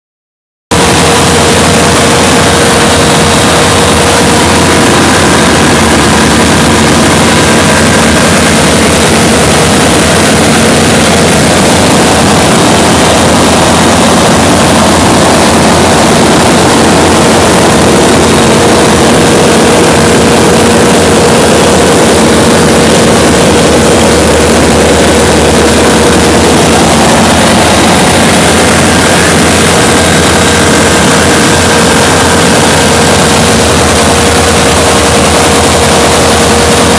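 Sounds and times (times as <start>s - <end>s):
aircraft engine drone: 0.7s - 36.9s
rushing wind: 0.7s - 36.9s.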